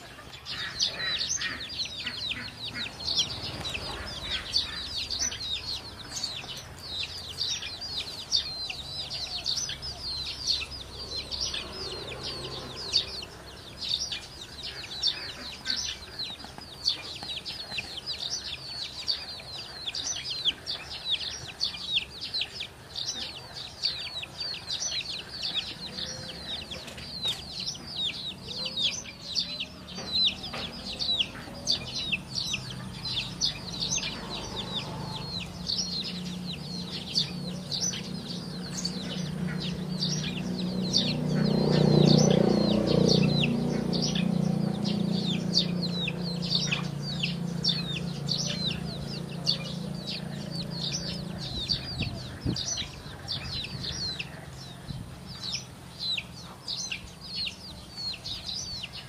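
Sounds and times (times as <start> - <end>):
chickens clucking: 0.0 - 59.0
high-pitched bird chirping: 0.0 - 59.0.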